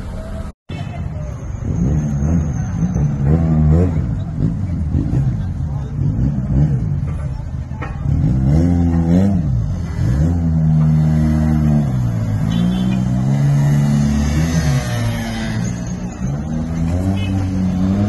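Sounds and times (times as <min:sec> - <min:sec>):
vehicle engine accelerating: 0:01.4 - 0:18.0.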